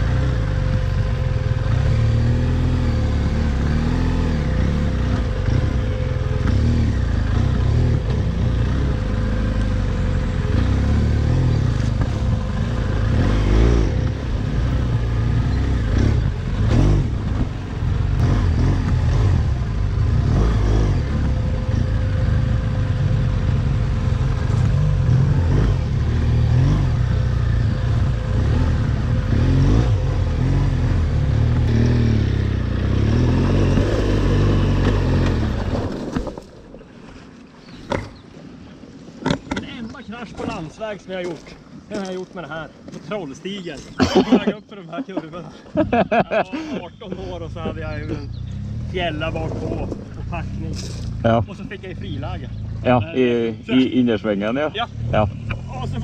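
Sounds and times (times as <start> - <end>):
motorcycle engine revving: 0.0 - 36.5, 46.9 - 56.0.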